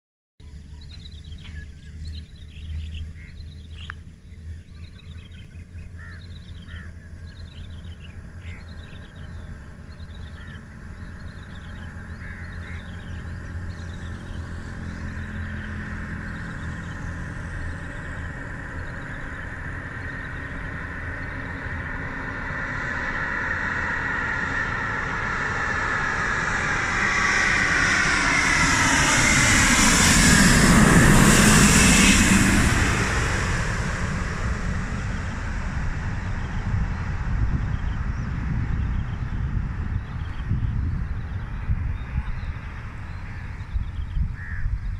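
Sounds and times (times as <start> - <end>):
birds calling: 0.4 - 26.6, 27.2 - 44.9
airliner passing overhead: 0.4 - 44.9.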